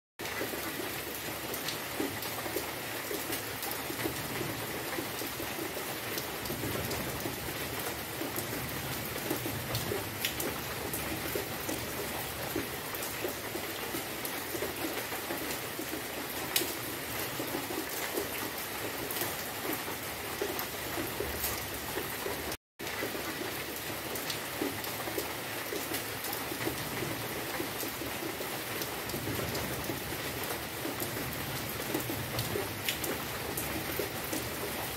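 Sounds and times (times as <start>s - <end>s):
rain on foliage: 0.2s - 34.9s.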